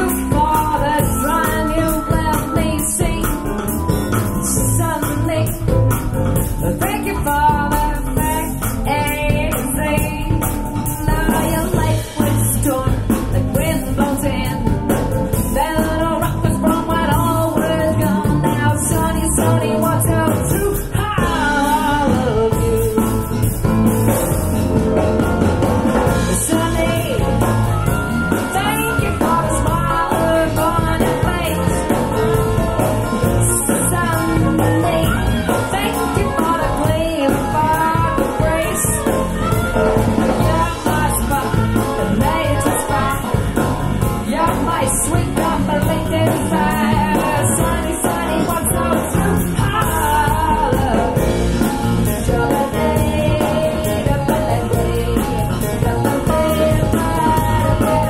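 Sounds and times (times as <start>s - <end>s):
live band with singer on loudspeakers: 0.0s - 58.0s.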